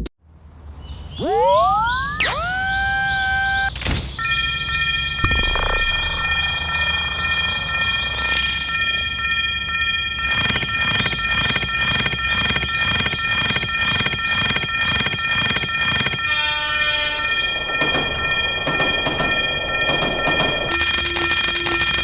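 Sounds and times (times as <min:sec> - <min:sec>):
level crossing bell ringing: 0:04.2 - 0:22.0
quick repeating bell strikes: 0:04.2 - 0:22.0.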